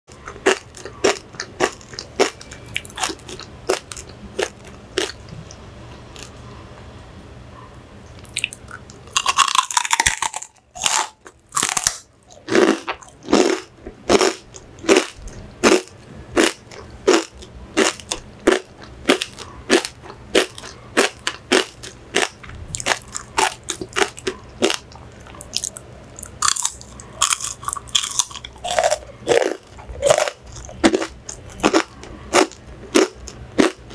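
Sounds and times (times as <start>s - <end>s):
chewing crunchy pork rinds: 0.1s - 6.4s, 8.2s - 33.9s.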